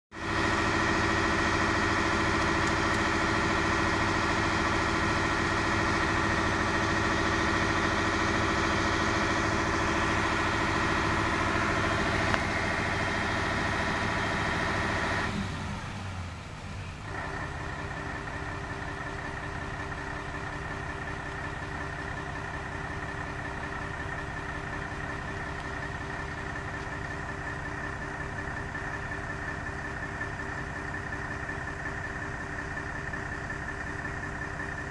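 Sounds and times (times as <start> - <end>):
truck engine running: 0.1 - 34.9.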